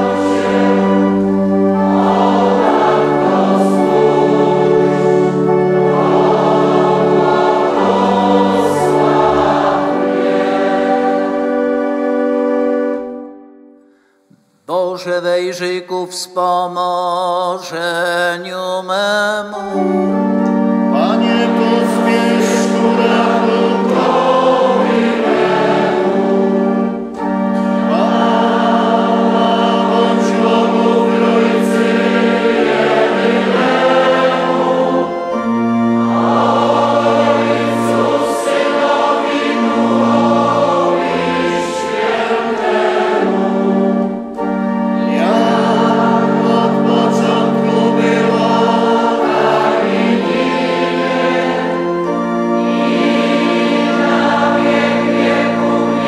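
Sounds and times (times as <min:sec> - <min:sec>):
congregation chanting: 0:00.0 - 0:14.0, 0:18.9 - 0:56.0
organ chords: 0:00.0 - 0:56.0.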